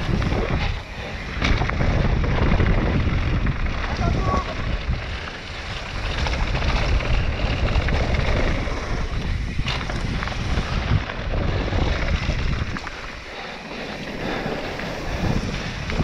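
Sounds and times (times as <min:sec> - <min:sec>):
bike rattling over bumps: 0:00.0 - 0:16.0
bike tyres crunching on gravel: 0:00.0 - 0:16.0
wind buffeting microphone: 0:00.0 - 0:16.0.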